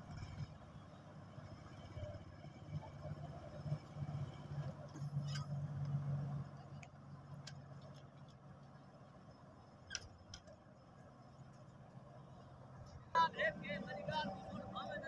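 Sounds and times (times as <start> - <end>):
heavy engine droning: 0.0 - 15.0.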